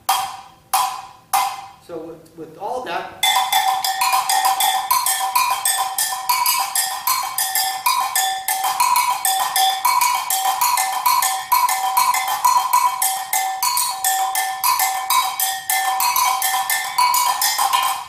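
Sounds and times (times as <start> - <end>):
agogo bells struck with stick: 0.0 - 1.8, 3.2 - 18.0.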